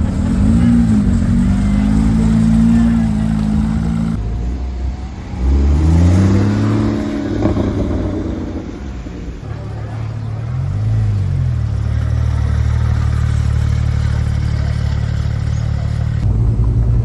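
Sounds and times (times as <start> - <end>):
car engine accelerating hard: 0.0 - 17.0
second car pulling away: 0.0 - 17.0.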